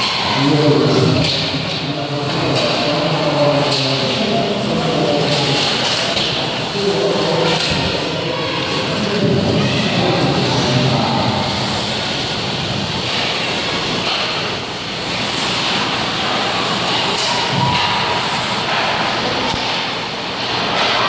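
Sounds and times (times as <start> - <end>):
rink hall rumble: 0.0 - 21.0.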